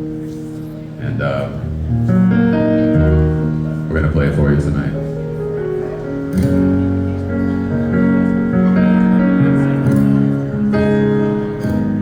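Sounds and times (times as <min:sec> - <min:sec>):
live band playing held chords: 0:00.0 - 0:12.0.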